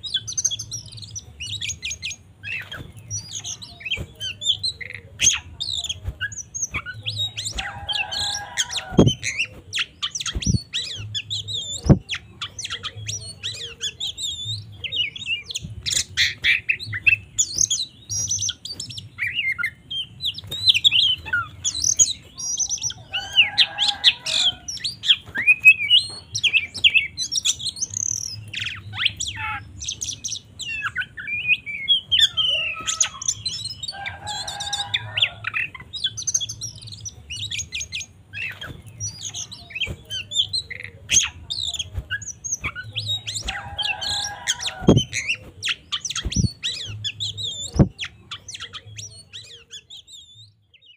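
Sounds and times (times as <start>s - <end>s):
bird singing whistles and chirps: 0.0s - 50.9s.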